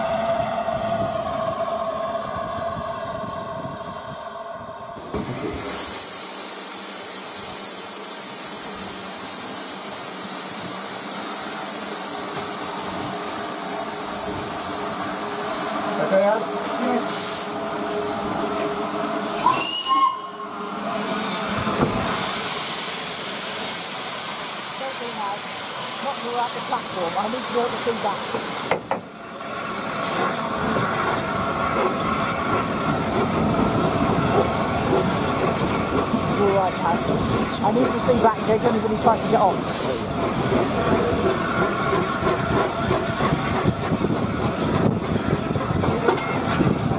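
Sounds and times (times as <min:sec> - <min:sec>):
steam hissing: 0:05.0 - 0:46.9
locomotive running rumble: 0:08.5 - 0:46.9.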